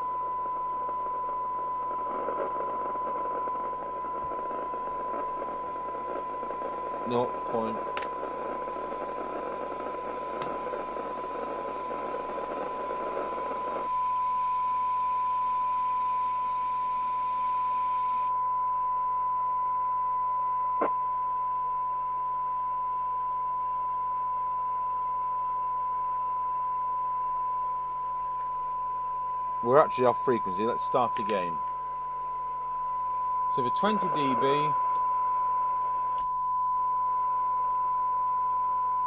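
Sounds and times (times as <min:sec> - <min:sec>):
receiver hiss: 0:00.0 - 0:39.0
steady test tone: 0:00.0 - 0:39.0.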